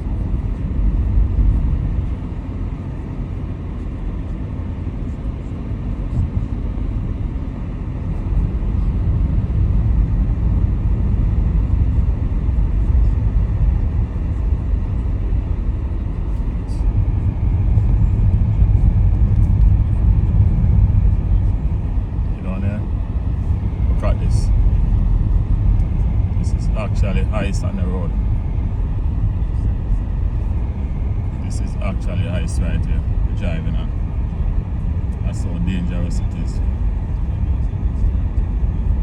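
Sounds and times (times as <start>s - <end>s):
car driving on road: 0.0s - 39.0s.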